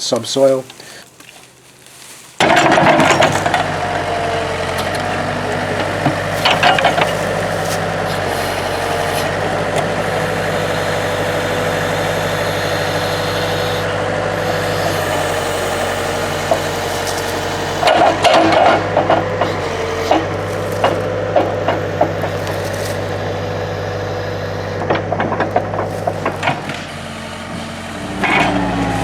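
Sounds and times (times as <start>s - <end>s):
cracking and clatter: 0.1s - 23.8s, 24.8s - 29.0s
heavy machinery engine running: 2.3s - 29.0s.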